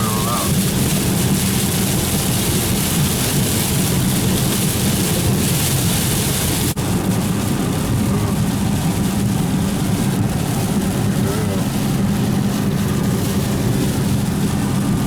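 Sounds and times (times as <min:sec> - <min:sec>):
heavy rain hiss: 0:00.0 - 0:15.0
vehicle road noise: 0:00.0 - 0:15.0.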